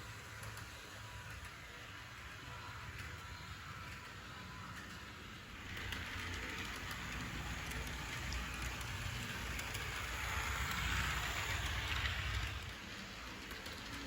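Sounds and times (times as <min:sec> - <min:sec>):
model train motor whirring: 0:00.0 - 0:14.0
wheels rolling on rails: 0:00.0 - 0:14.0.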